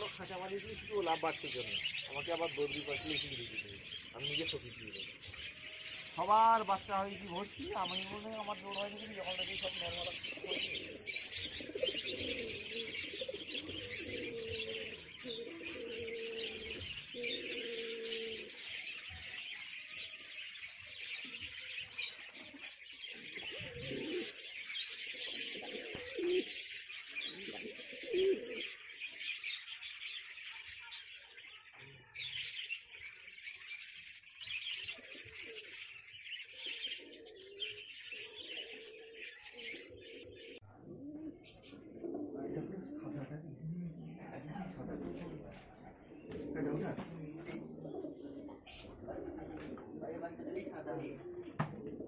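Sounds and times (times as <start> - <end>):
pigeons cooing: 0.0 - 52.0
small birds chirping: 0.0 - 52.0.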